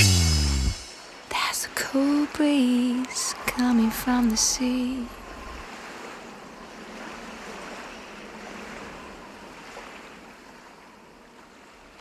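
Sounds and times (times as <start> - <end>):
ocean surf rushing: 0.0 - 10.8.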